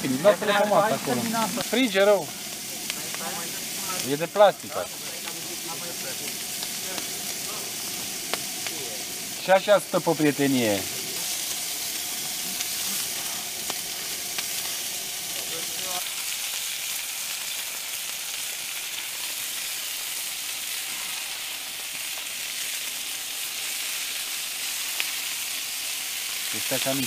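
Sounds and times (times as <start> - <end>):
kebabs sizzling in a pan: 0.0 - 27.0.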